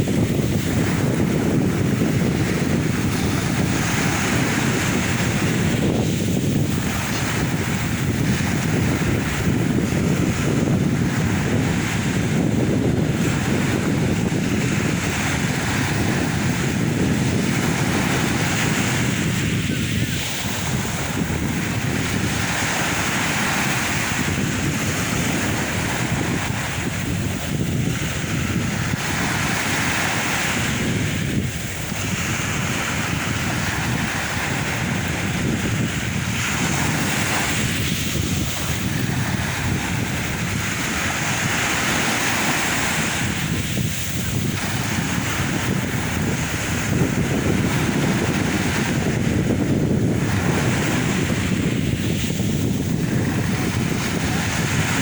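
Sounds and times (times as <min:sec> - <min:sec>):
sea waves washing on shore: 0:00.0 - 0:55.0
wind buffeting microphone: 0:00.0 - 0:55.0.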